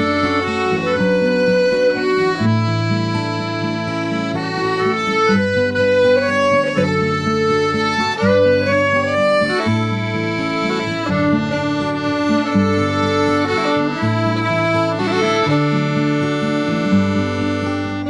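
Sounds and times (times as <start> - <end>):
accordion chords: 0.0 - 18.0
fiddle: 0.0 - 18.0.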